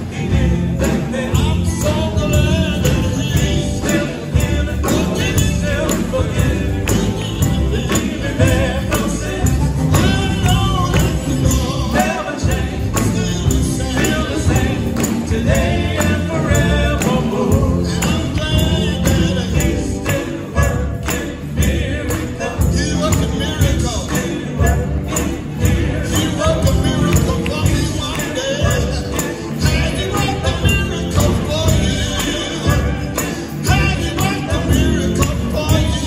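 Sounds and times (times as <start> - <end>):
drums: 0.0 - 36.0
electric bass: 0.0 - 36.0
jingling percussion: 0.0 - 36.0.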